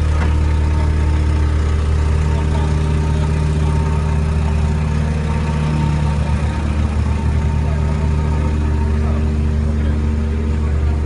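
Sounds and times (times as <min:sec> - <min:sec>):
heavy machine engine idling: 0:00.0 - 0:11.0.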